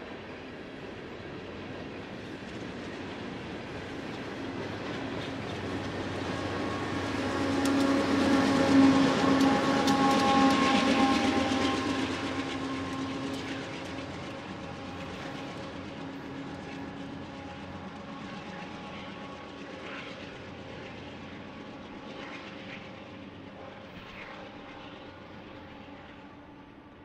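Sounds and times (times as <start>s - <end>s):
diesel locomotive engine hum: 0.0s - 27.0s.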